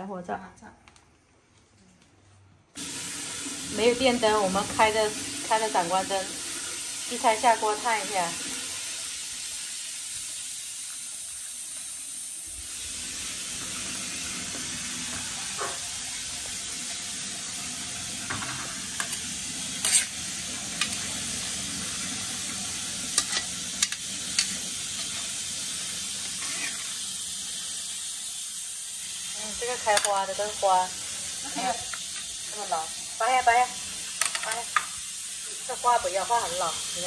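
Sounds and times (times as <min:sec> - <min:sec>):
boiling water hissing: 0:02.8 - 0:37.0.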